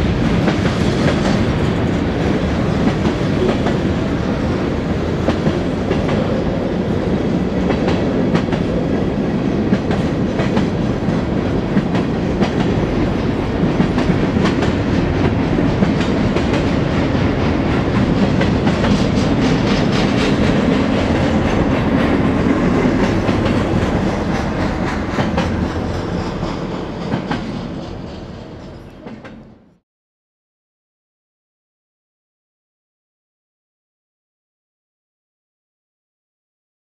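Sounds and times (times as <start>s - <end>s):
freight train rumbling past: 0.0s - 29.8s.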